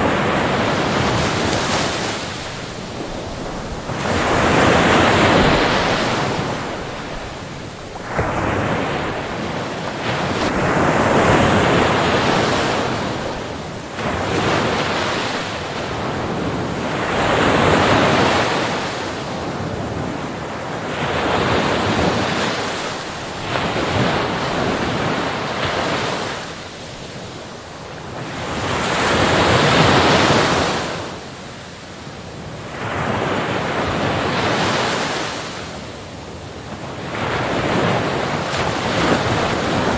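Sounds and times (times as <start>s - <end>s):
ocean surf on beach: 0.0s - 39.9s.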